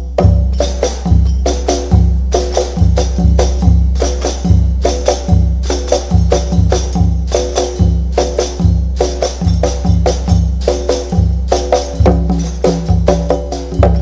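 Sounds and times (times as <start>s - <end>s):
pitched frame drum beats: 0.0s - 14.0s
tambourine jingling: 0.0s - 14.0s.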